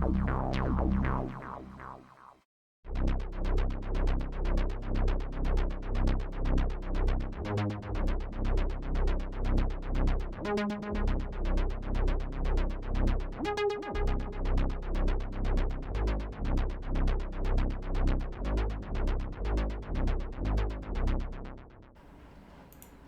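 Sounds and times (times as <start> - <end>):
arpeggiated synth bass: 0.0 - 2.3, 2.9 - 21.6.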